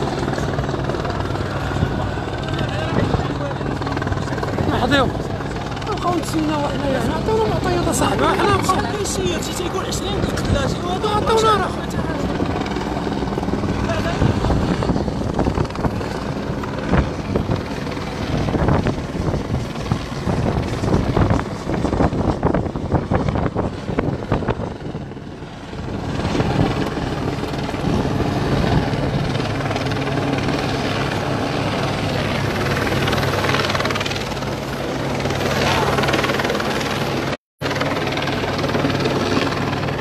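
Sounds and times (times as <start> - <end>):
helicopter rotor and engine drone: 0.0 - 40.0.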